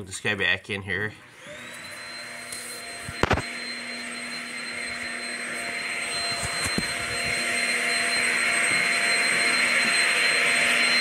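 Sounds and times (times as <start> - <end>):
vacuum motor whining: 1.2 - 11.0.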